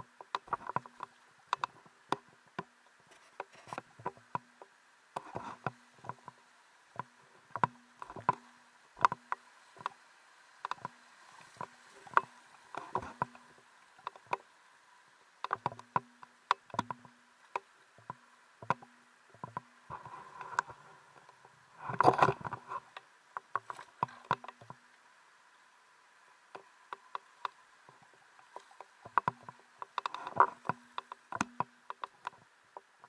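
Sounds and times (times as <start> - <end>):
water trickling: 0.0 - 33.0.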